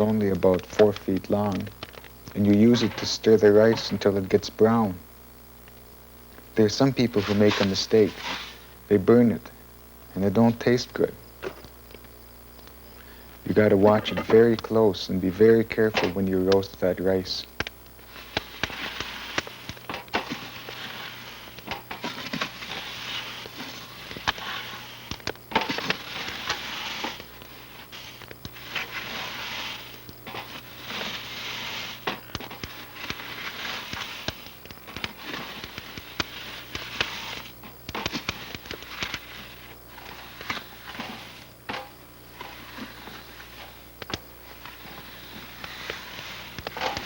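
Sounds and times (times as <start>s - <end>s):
grains swishing and rustling: 0.0s - 5.0s, 6.6s - 9.4s, 12.8s - 17.4s, 18.0s - 47.0s
sharp crackles and clicks: 0.0s - 47.0s.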